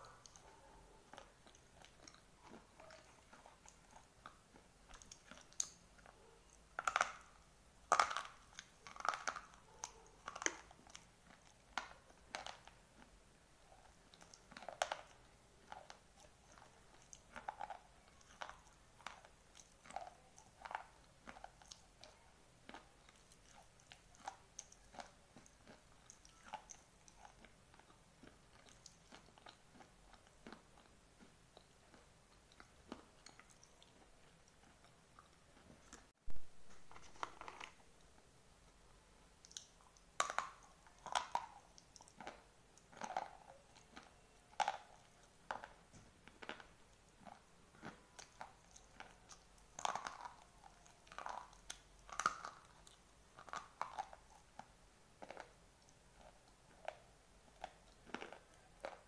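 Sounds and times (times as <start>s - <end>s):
person chewing gritty crunches: 0.0s - 38.3s, 39.4s - 59.0s.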